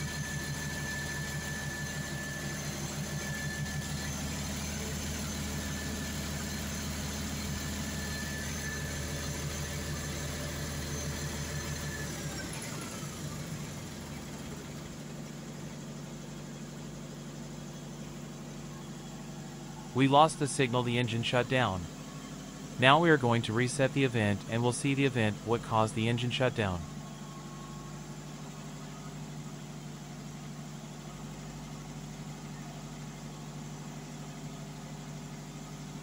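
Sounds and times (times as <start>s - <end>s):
diesel generator running down: 0.0s - 36.0s
faint steady hum: 0.0s - 36.0s.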